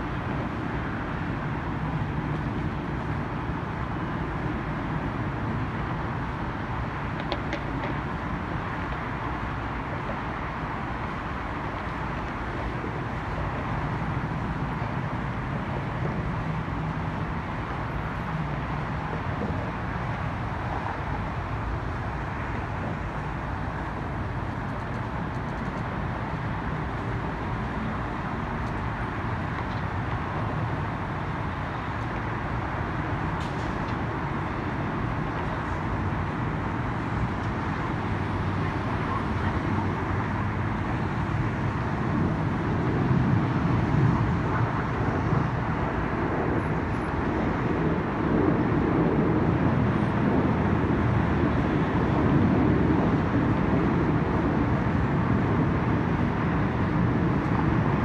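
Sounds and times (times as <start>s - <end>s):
city background noise: 0.0s - 58.0s.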